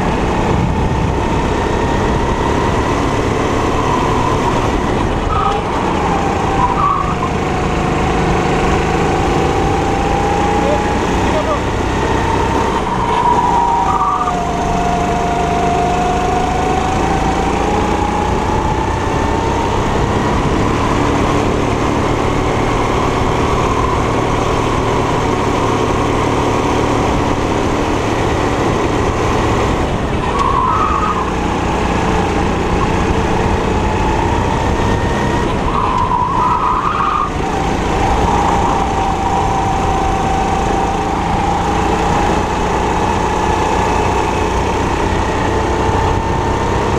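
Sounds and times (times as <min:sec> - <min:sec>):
kart engine racing: 0:00.0 - 0:46.9.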